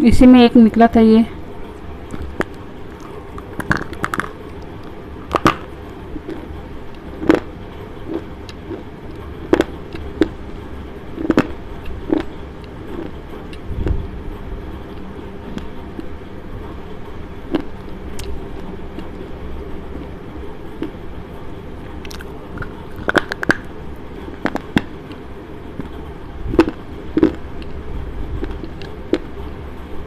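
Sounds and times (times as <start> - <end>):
low steady rumble: 0.0 - 30.0.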